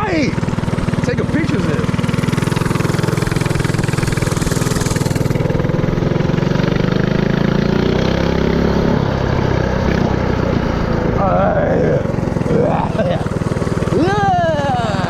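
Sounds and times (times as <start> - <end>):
mini-bike engine running: 0.0 - 15.0.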